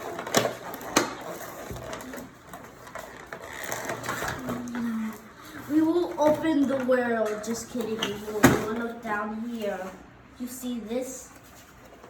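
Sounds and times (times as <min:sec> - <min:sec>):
cardboard and plastic rustling: 0:00.0 - 0:10.0, 0:11.2 - 0:12.0.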